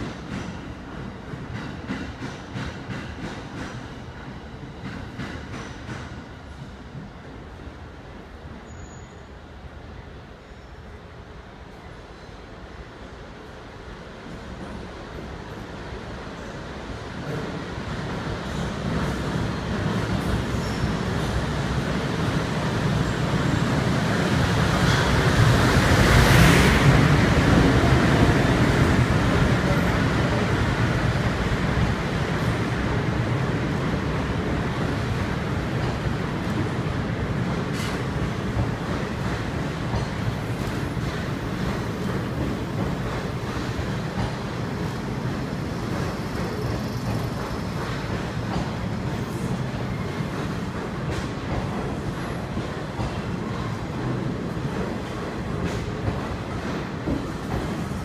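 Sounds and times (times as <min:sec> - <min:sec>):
train wheels rumbling on rail: 0:00.0 - 0:10.3, 0:11.0 - 0:58.0.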